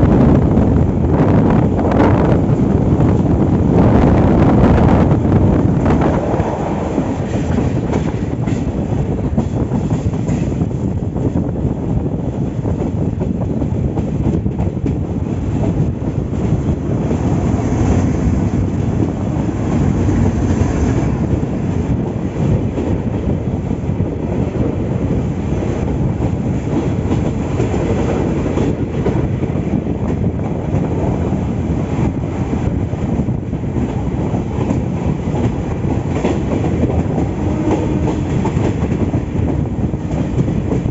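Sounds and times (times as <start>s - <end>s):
rail clickety-clack: 0.0s - 40.9s
train wheels running on rails: 0.0s - 40.9s.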